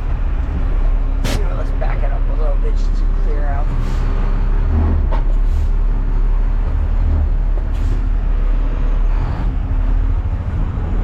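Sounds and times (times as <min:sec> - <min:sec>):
garbage truck engine rumbling: 0:00.0 - 0:11.0.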